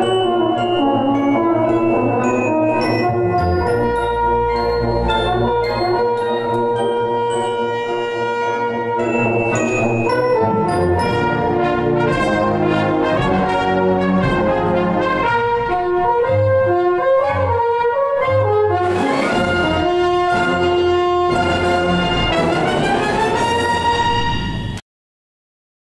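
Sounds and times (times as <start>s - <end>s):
wind band playing chords: 0.0s - 24.3s.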